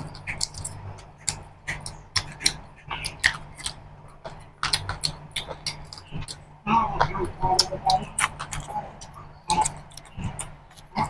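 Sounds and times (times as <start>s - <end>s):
wet chewing and lip smacking: 0.0s - 11.0s.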